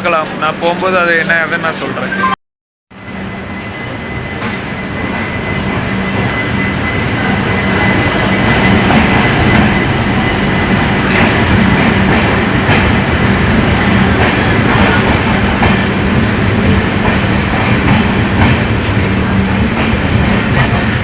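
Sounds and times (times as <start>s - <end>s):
train rumble and hum: 2.9s - 21.0s.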